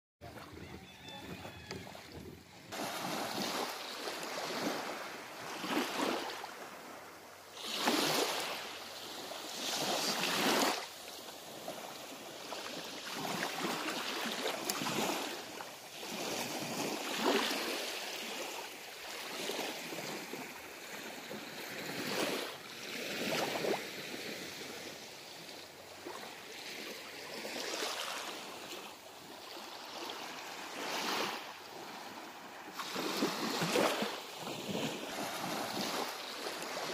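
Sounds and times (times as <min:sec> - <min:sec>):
waves washing onto beach: 0:00.3 - 0:36.9.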